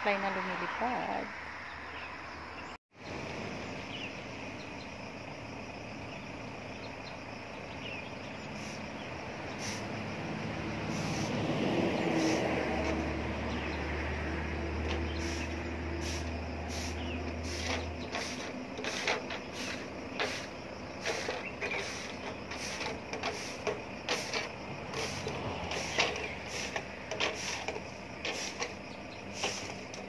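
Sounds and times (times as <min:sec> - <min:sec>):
heavy vehicle engine rumbling: 0:03.0 - 0:30.0.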